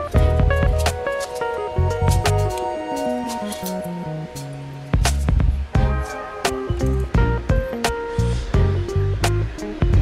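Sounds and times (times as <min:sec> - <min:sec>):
background music with drums and bass: 0:00.0 - 0:10.0.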